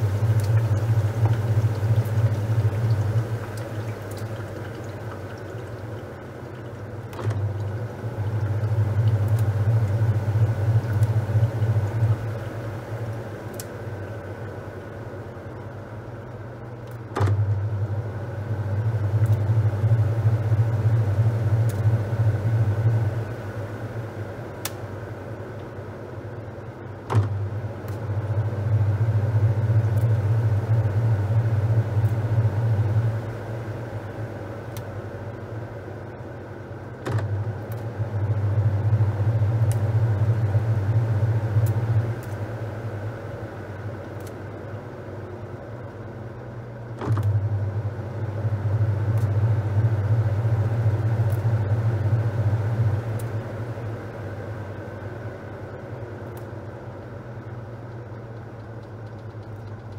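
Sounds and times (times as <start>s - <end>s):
washing machine churning: 0.0s - 59.9s
washing machine motor humming: 0.0s - 59.9s.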